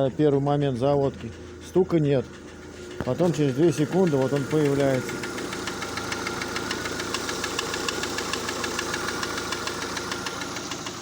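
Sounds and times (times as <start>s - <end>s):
car engine idling: 0.0s - 11.0s
rapid knocking tick from engine: 0.8s - 11.0s.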